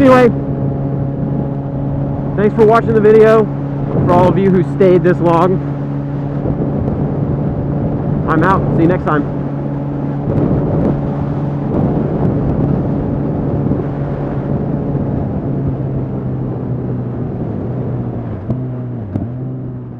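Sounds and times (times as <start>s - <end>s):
motorcycle engine running: 0.0s - 19.9s
wind rushing over microphone: 0.0s - 19.9s.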